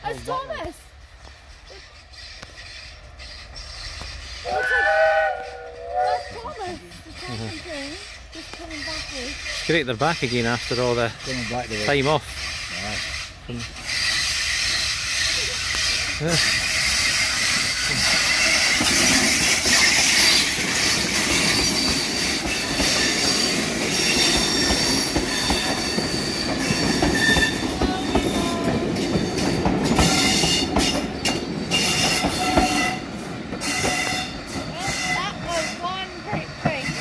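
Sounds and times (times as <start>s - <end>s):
steam train passing: 0.0s - 37.0s
wheels clicking over rail joints: 0.0s - 37.0s
wheels squealing: 1.3s - 37.0s.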